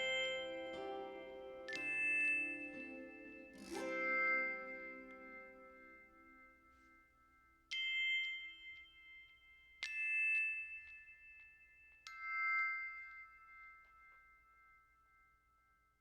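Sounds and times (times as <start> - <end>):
bell-like chords ringing: 0.0 - 15.0.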